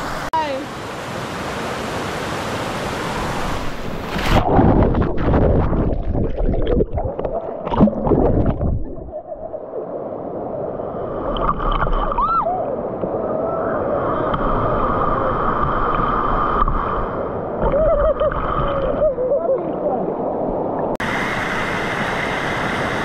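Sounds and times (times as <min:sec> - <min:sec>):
rushing water gurgling: 0:00.0 - 0:23.0
water splashing and sloshing: 0:01.8 - 0:13.2, 0:14.1 - 0:22.4.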